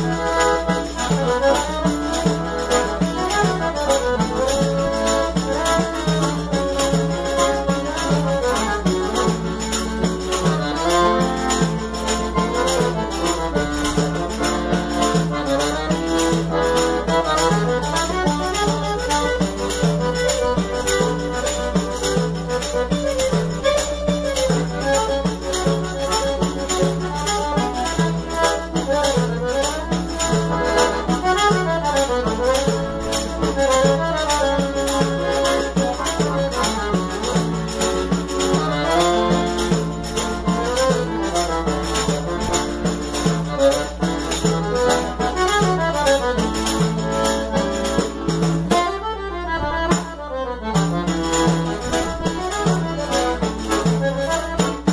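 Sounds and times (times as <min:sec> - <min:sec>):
piano accordion playing lively tune: 0:00.0 - 0:54.9.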